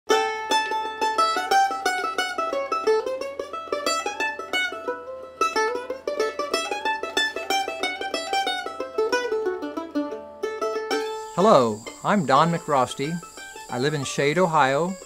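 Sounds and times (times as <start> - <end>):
mandolin picked notes: 0.1 - 15.0.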